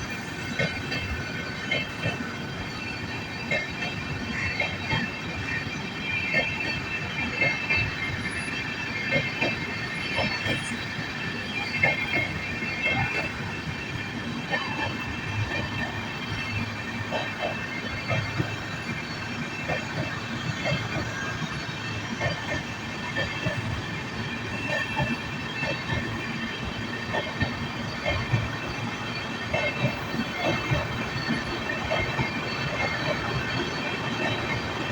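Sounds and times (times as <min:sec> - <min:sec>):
train rumble: 0:00.0 - 0:34.9.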